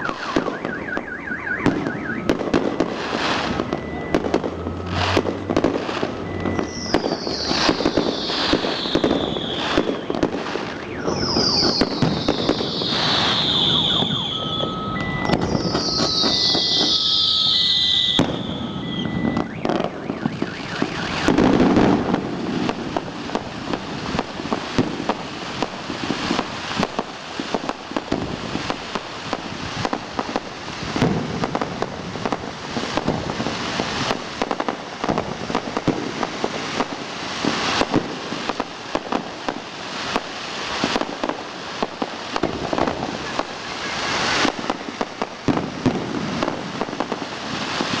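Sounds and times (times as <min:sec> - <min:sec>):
fireworks crackling: 0:00.0 - 0:48.0
heavy firework bursts: 0:00.0 - 0:48.0.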